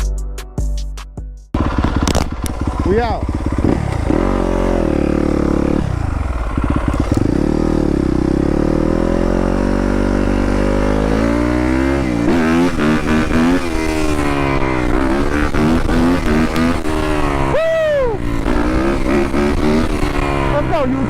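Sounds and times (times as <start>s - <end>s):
dirt bike engine revving: 1.6s - 21.0s.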